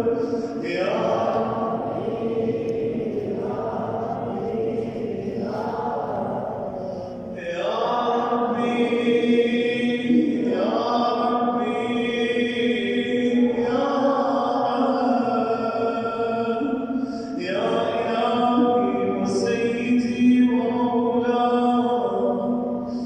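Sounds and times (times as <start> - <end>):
person chanting melodically: 0.0 - 23.0.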